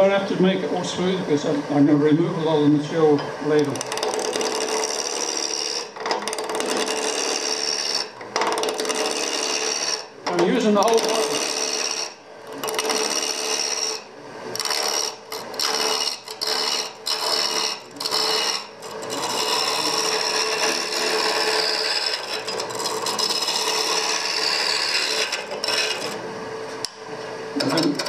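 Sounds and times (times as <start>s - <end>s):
steady hum: 0.0s - 28.0s
gouge scraping wood on lathe: 3.5s - 26.9s, 27.6s - 28.0s.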